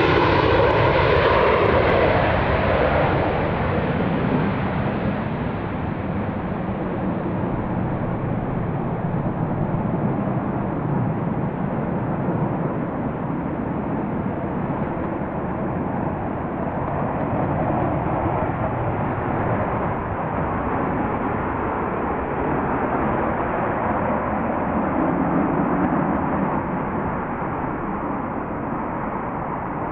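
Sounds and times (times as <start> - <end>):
jet engine running: 0.0 - 29.9.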